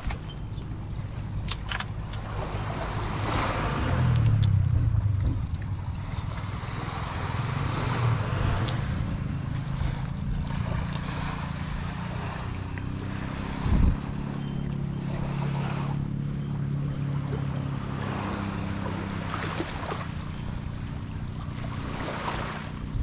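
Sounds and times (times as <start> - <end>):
low engine drone: 0.0 - 23.0
rushing outdoor noise: 0.0 - 23.0.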